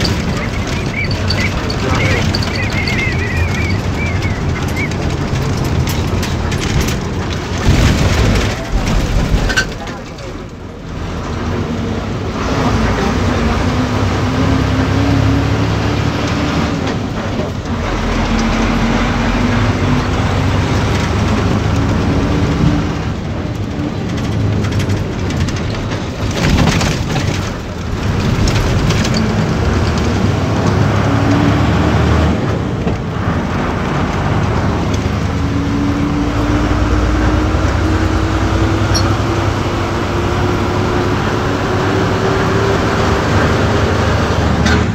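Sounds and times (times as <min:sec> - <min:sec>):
bus engine and road noise: 0:00.0 - 0:44.9.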